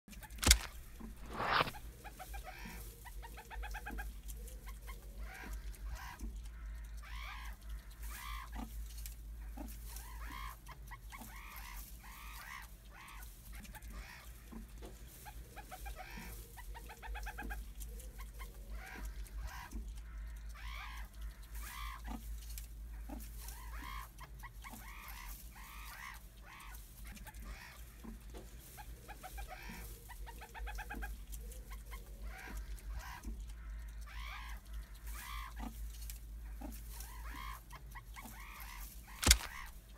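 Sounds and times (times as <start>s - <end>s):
meerkats chirping: 0.2s - 8.8s, 9.4s - 22.3s, 22.9s - 39.9s.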